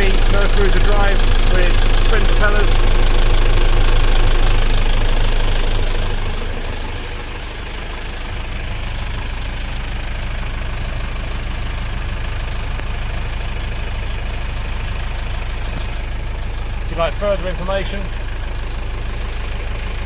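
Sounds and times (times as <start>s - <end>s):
marine diesel engine running: 0.0s - 20.0s.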